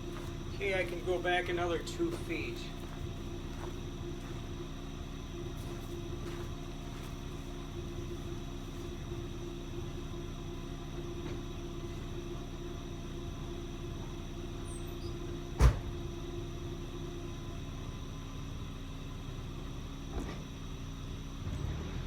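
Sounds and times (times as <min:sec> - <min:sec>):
truck engine idling: 0:00.0 - 0:21.4.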